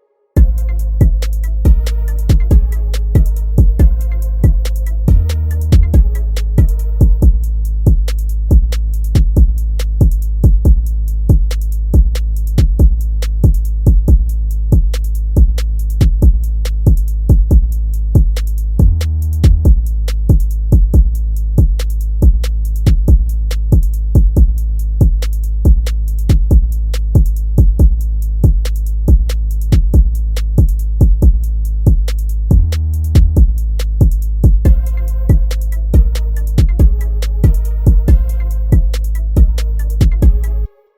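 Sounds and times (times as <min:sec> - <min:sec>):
drum machine hits: 0:00.4 - 0:14.2, 0:14.8 - 0:40.7
heavy bass: 0:00.4 - 0:40.8.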